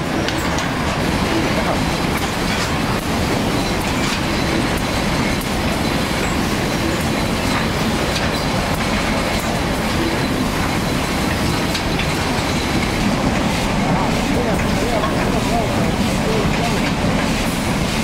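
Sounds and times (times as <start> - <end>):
packing machine running: 0.0 - 18.0
machine clicks and clatter: 0.2 - 18.0.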